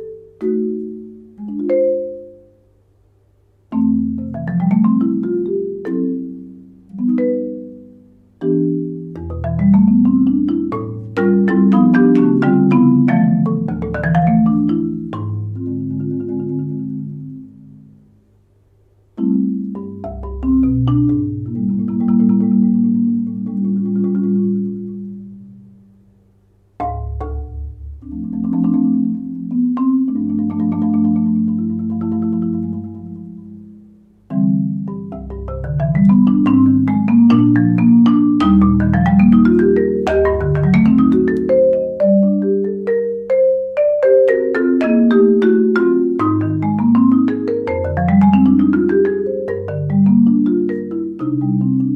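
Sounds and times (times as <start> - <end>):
marimba played with yarn mallets: 0.0 - 2.8, 3.7 - 18.0, 19.2 - 25.8, 26.8 - 51.9.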